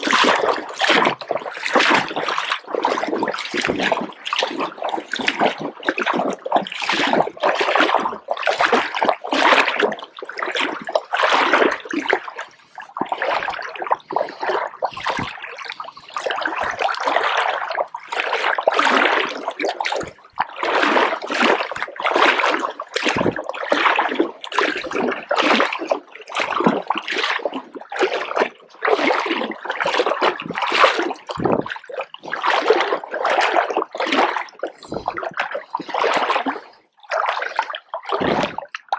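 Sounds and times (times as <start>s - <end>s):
river water splashing: 0.0s - 38.6s.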